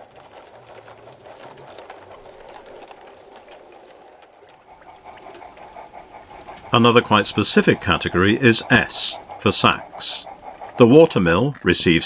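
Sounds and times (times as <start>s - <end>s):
model train wheels rattling: 0.0s - 12.0s.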